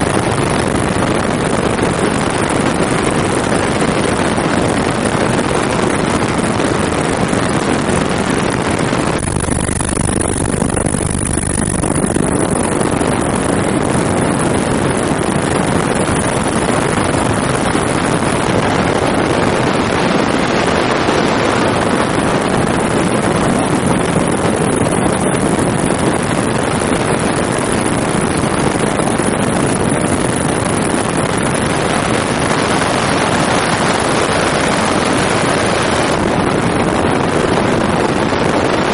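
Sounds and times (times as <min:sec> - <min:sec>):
helicopter engine and rotor noise: 0:00.0 - 0:38.9
thin high whine: 0:00.0 - 0:38.9.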